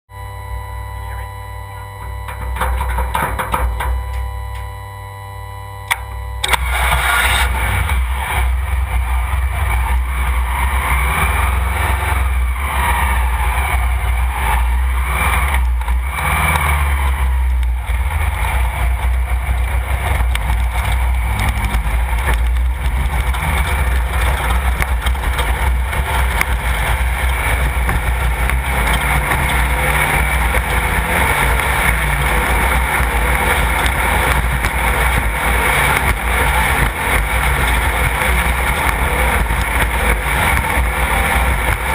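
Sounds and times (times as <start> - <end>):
race car engine running: 5.9 - 41.9.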